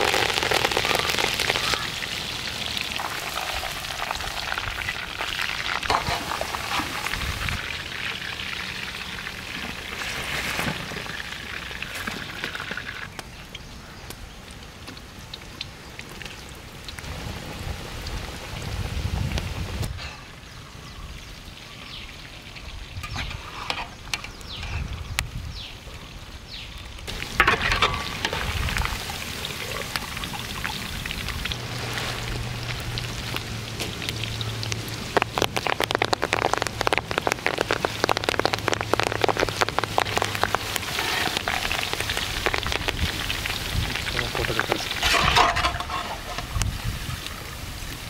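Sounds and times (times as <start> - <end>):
food deep-frying in oil: 0.0 - 48.0.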